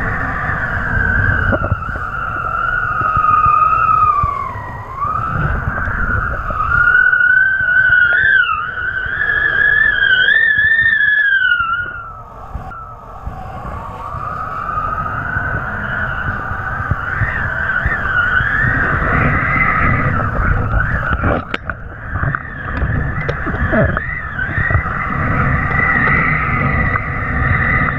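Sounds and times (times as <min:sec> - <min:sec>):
wind buffeting microphone: 0:00.0 - 0:27.9
wind whistling over kite line: 0:00.0 - 0:27.9.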